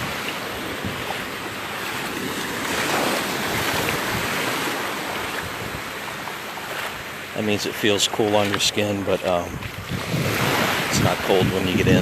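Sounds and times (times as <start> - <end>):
wind buffeting microphone: 0.0 - 6.0, 7.8 - 12.0
surf washing in: 0.0 - 12.0.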